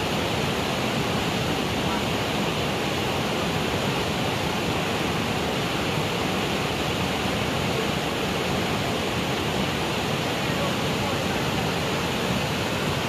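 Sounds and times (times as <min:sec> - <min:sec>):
water rushing loudly: 0:00.0 - 0:13.0.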